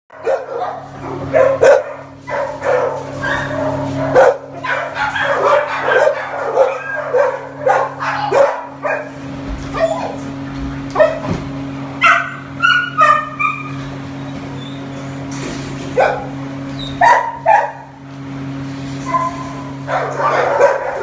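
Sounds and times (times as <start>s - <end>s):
dogs barking and yipping: 0.1s - 10.3s, 10.9s - 11.3s, 12.0s - 15.1s, 15.9s - 18.0s, 19.0s - 21.0s
steady low hum: 0.1s - 21.0s.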